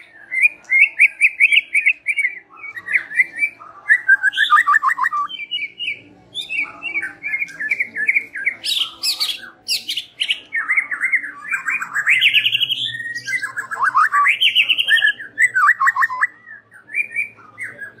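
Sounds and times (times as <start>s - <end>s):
bird singing trills and whistles: 0.0s - 18.0s.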